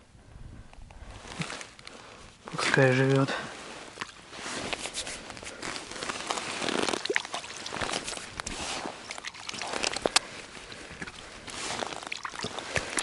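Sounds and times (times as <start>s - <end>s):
hands brushing over icy snow: 2.6s - 13.0s.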